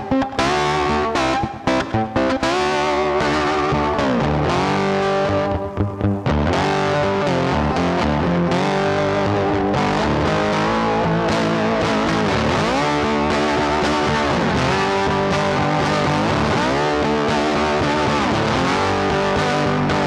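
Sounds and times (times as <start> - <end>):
distorted electric guitar music: 0.0 - 20.0.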